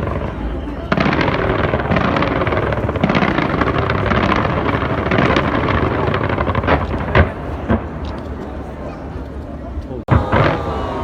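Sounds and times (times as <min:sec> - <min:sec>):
fireworks bursting and crackling: 0:00.0 - 0:08.4, 0:10.1 - 0:11.0.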